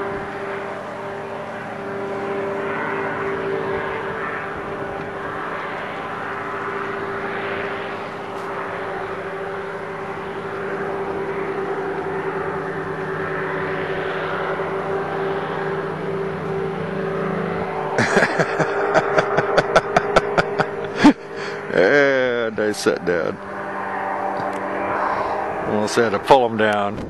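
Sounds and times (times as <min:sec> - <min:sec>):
engine and propeller drone: 0:00.0 - 0:27.0.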